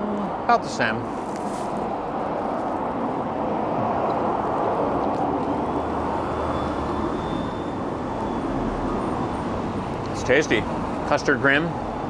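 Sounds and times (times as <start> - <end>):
rumble of urban traffic: 0.0 - 12.0.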